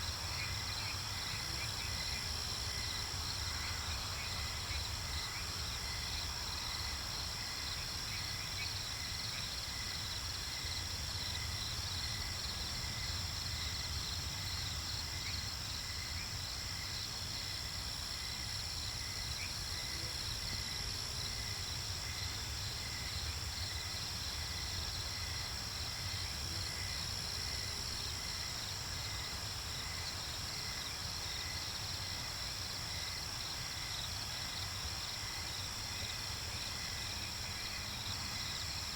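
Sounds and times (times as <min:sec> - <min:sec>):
high insect drone: 0:00.0 - 0:38.9
insects chirping: 0:00.0 - 0:38.9.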